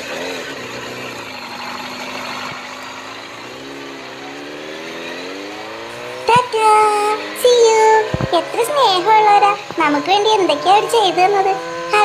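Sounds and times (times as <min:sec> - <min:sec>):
vehicle engine pulling away: 0:00.0 - 0:12.0.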